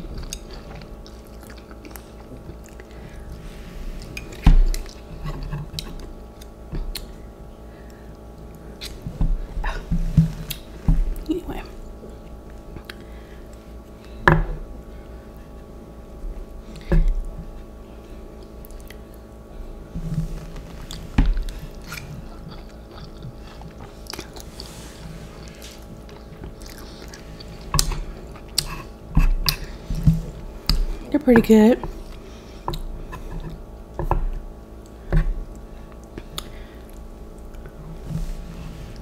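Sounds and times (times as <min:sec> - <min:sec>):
person chewing noodles: 0:00.0 - 0:11.3, 0:12.0 - 0:14.2, 0:16.6 - 0:19.5, 0:20.4 - 0:31.1, 0:31.9 - 0:33.6, 0:34.3 - 0:37.9
steady low hum: 0:00.0 - 0:39.0.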